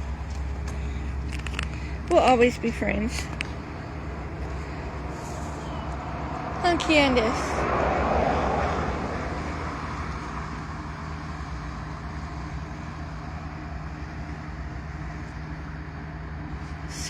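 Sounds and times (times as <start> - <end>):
distant vehicle rumble: 0.0 - 17.0.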